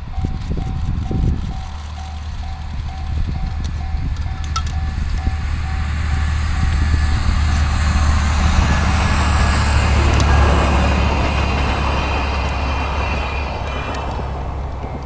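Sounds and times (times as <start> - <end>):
train engine and wheel rumble: 0.0 - 15.0.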